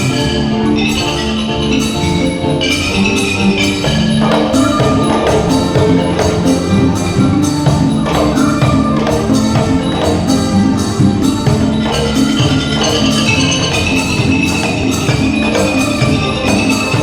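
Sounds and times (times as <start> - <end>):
percussion ensemble playing: 0.0 - 17.0.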